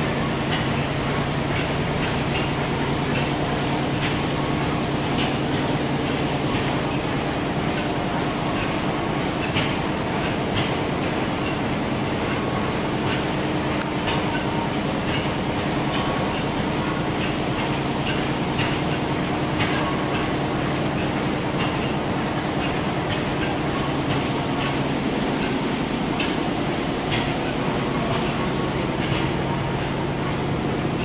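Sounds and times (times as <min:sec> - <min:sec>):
old engines humming: 0:00.0 - 0:31.0.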